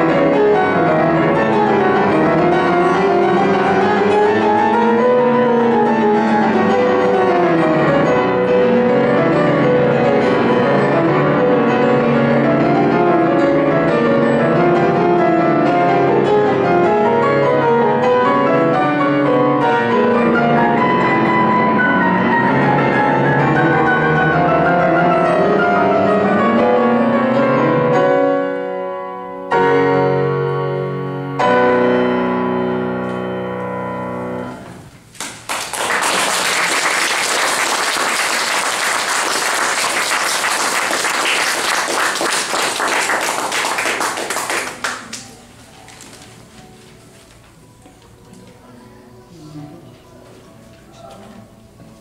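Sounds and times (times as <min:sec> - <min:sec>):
grand piano running passages: 0:00.0 - 0:52.0
loud piano chords ringing: 0:00.0 - 0:52.0.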